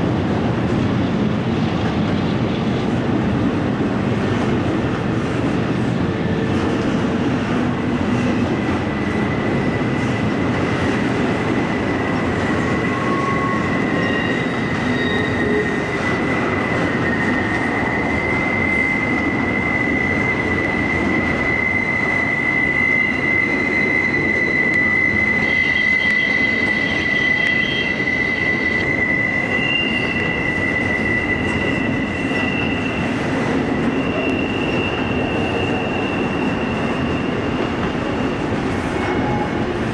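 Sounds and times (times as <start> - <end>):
steel wheels squealing on rail: 4.2 - 39.9.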